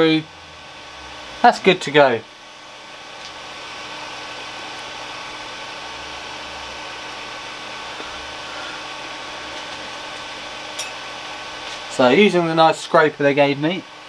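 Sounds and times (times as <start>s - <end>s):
cooling fans whirring: 0.0s - 14.0s
faint hum tones: 0.0s - 14.0s.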